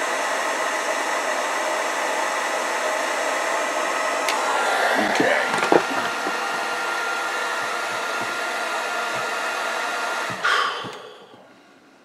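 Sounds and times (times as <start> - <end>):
fan winding down: 0.0 - 11.5
heat gun blowing: 0.0 - 12.0.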